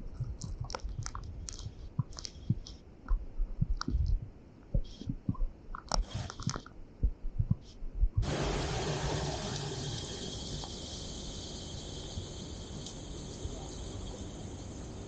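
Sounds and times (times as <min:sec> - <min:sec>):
raindrops tapping on microphone: 0:00.0 - 0:06.7, 0:07.4 - 0:15.0.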